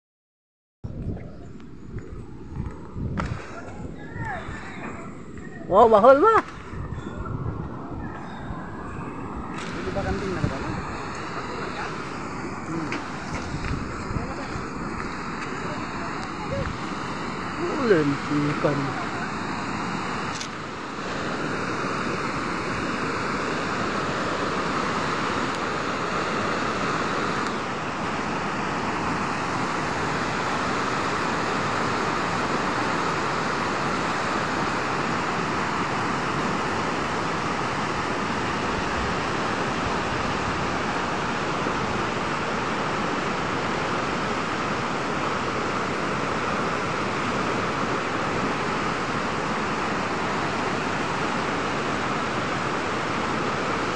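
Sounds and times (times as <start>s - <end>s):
river rushing over rocks: 8.6s - 53.9s.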